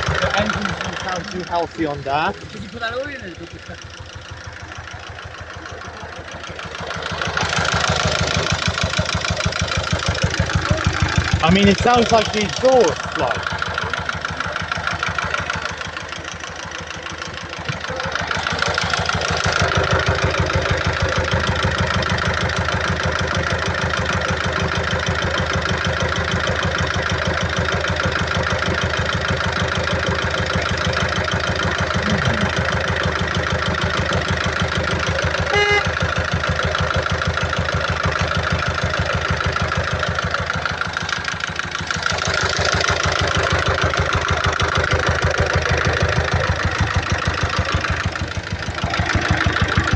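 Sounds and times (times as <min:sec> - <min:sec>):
diesel engine idling with knock: 0:00.0 - 0:49.9.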